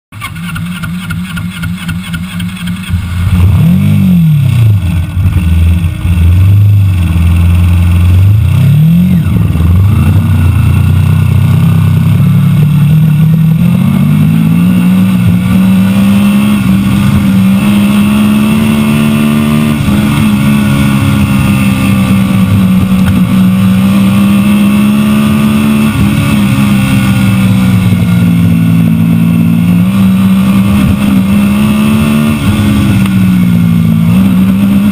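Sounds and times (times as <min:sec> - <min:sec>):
race car engine revving: 0:00.1 - 0:34.9.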